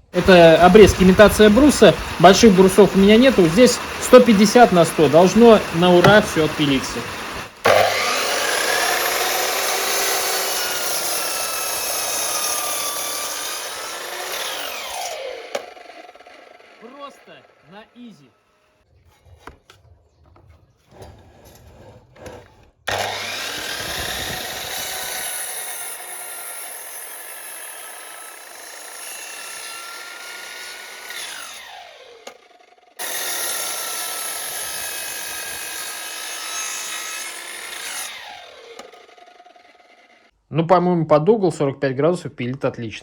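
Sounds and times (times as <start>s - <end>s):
saw motor winding down: 0.0s - 17.9s, 22.9s - 40.3s
mitre saw cutting wood: 0.0s - 19.8s, 20.9s - 40.3s.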